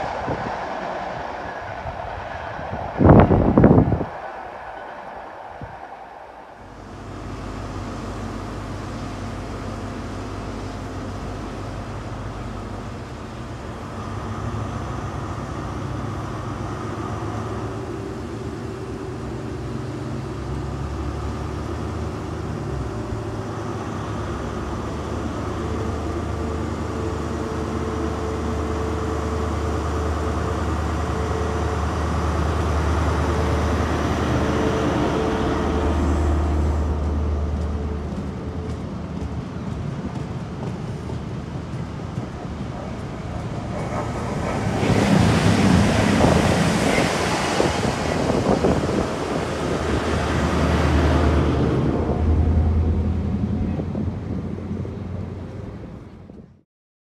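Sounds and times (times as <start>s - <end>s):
diesel train engine: 0.0s - 56.6s.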